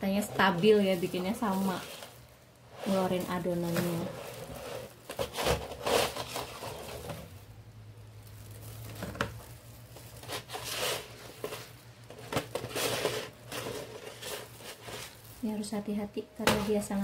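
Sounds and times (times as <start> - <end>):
crinkly rustling: 0.0 - 17.0.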